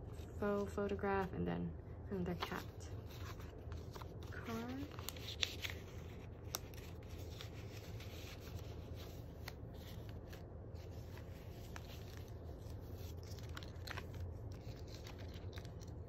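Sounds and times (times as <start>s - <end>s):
low background hum: 0.0s - 16.0s
paper rustling: 2.2s - 16.0s.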